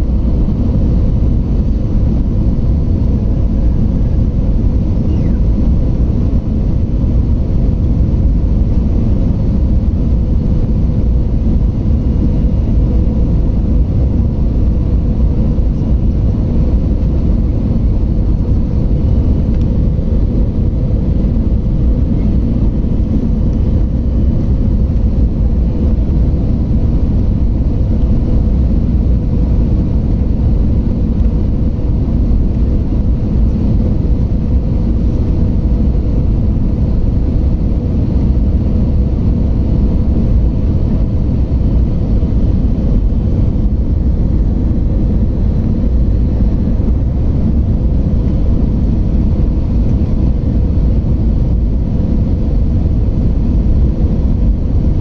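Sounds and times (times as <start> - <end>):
faint constant hum: 0.0 - 55.0
jet cabin engine rumble: 0.0 - 55.0.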